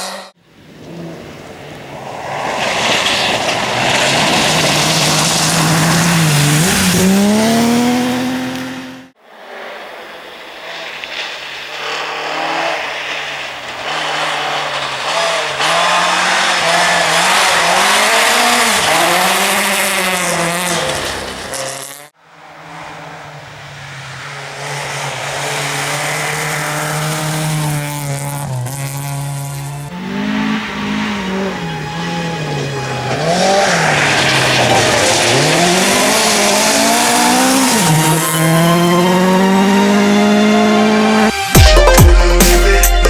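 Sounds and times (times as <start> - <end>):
rally car approaching: 0.0 - 41.5
rally car engine at high revs: 0.0 - 41.6.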